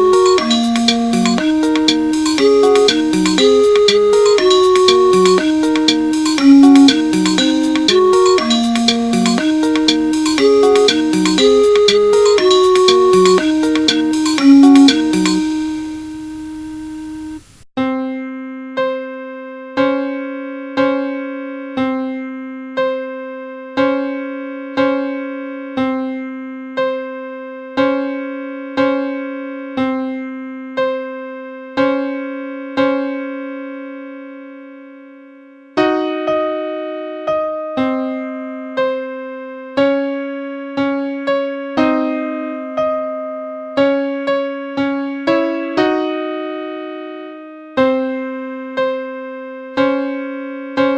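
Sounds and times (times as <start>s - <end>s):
electric piano melody: 0.0s - 17.2s, 17.9s - 34.1s, 35.8s - 50.9s.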